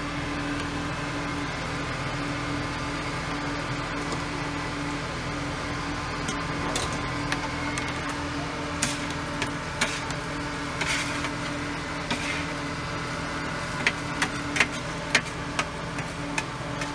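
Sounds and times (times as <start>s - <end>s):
mechanical hum: 0.0s - 16.9s.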